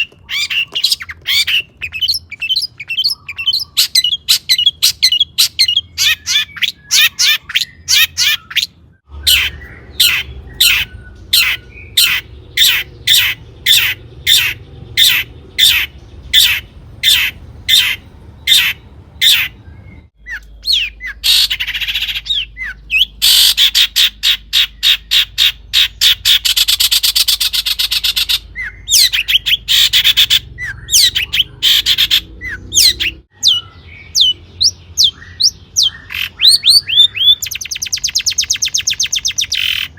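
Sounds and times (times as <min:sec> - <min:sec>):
bird singing sharp notes: 0:00.0 - 0:39.9
fast rattling bird trill: 0:00.0 - 0:39.9
harsh noisy bird call: 0:00.0 - 0:39.9.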